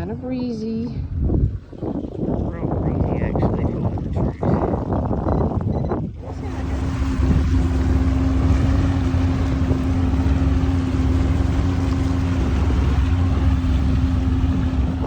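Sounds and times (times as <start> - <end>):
wind on microphone: 0.0 - 15.0
outboard motor running: 0.7 - 15.0.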